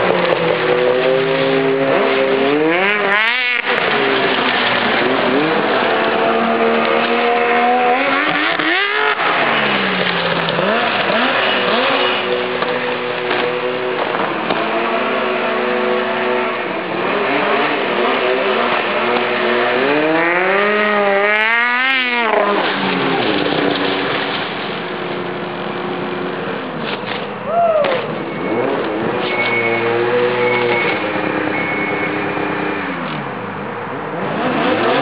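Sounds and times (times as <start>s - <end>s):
snowmobile engine revving: 0.0s - 26.6s, 27.6s - 33.2s, 34.1s - 35.0s.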